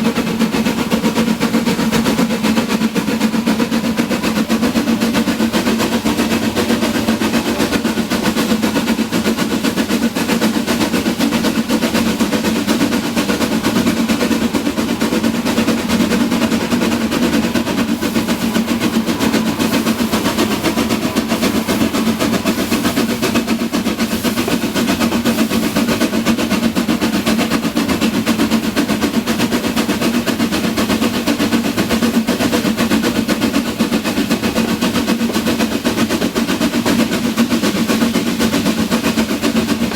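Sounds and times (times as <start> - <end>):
steam train clattering: 0.0 - 39.9.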